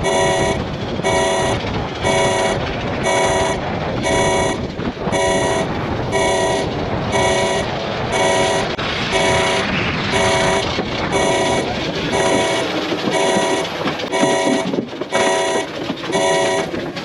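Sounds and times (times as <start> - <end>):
pulsing alarm horn: 0.0 - 16.8
continuous rushing noise: 0.0 - 17.0.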